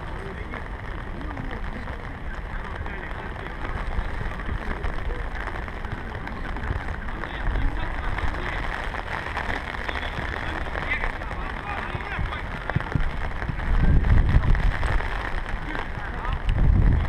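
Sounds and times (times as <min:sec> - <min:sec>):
footballers calling faintly: 0:00.0 - 0:17.0
low rumble and hiss: 0:00.0 - 0:17.0.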